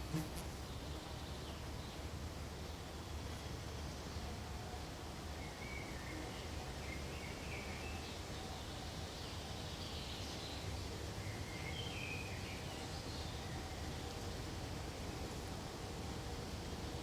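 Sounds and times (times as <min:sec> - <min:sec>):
steady low background noise: 0:00.0 - 0:17.0.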